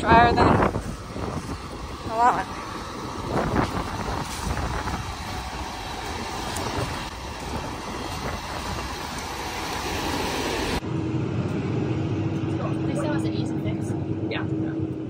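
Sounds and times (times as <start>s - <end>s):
diesel machinery engines running: 0.0s - 15.0s.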